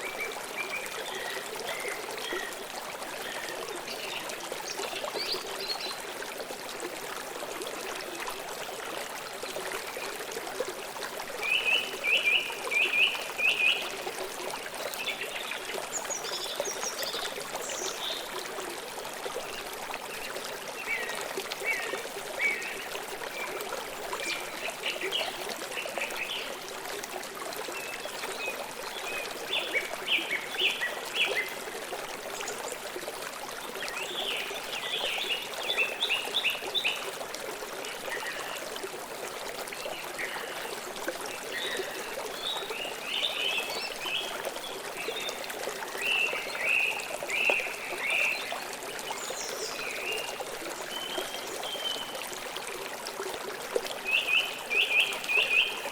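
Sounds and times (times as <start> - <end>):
river water flowing: 0.0 - 55.9.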